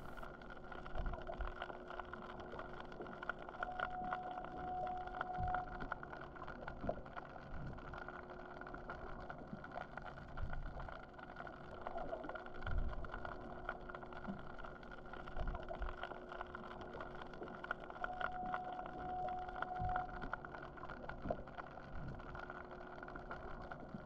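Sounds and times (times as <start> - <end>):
muffled underwater machine hum: 0.0 - 24.0.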